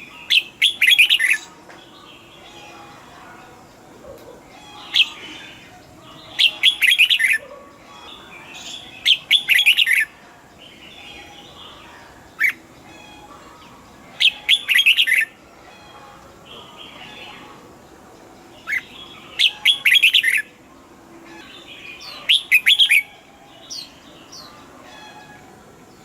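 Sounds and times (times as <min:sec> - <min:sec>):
background bird chirping: 0:00.0 - 0:26.0.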